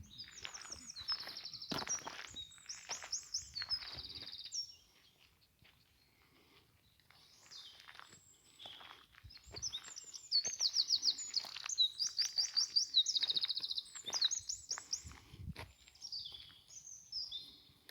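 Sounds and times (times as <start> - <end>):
songbird chirping: 0.0 - 17.9.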